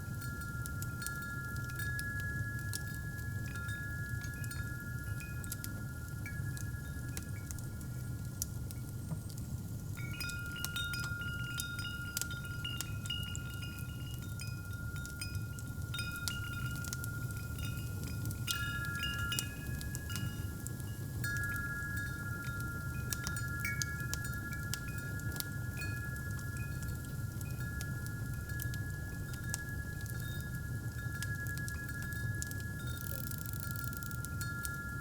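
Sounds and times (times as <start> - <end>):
wind chimes ringing: 0.0 - 8.7, 10.0 - 35.0
fireplace fire crackling: 0.0 - 35.0.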